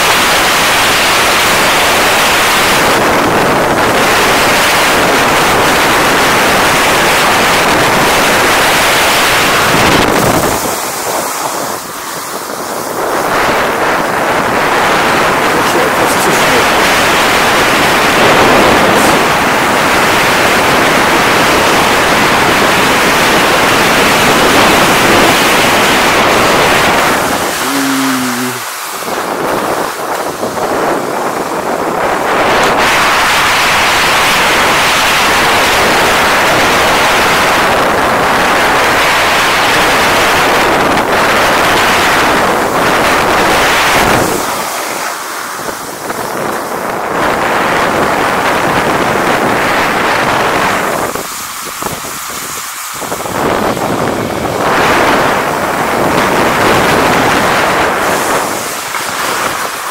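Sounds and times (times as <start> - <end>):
loud wind on microphone: 0.0 - 59.9.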